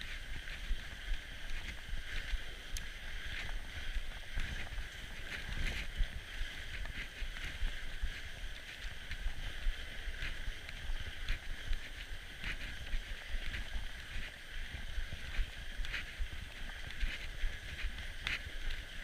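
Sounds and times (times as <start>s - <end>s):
bike tyres rumbling over snow: 0.0s - 19.0s.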